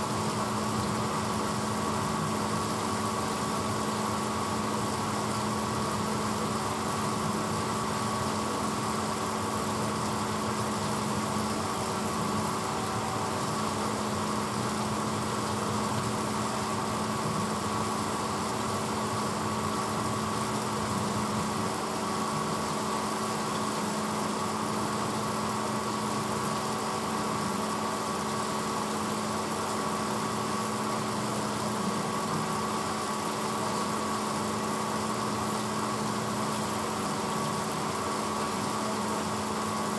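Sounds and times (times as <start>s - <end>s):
dishwasher motor humming: 0.0s - 39.9s.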